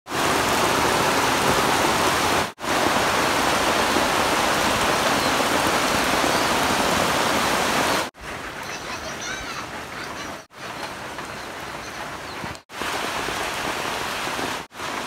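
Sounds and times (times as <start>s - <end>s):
heavy rain on floodwater: 0.1s - 15.0s.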